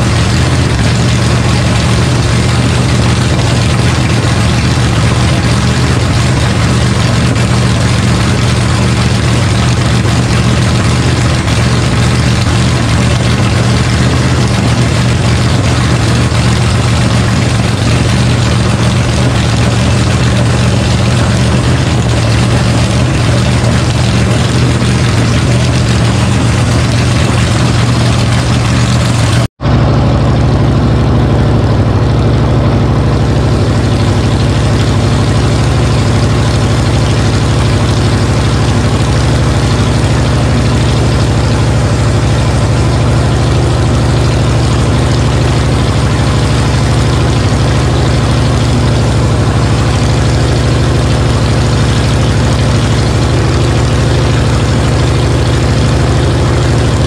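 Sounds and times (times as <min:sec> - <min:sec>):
engine idling fast: 0:00.0 - 0:57.0.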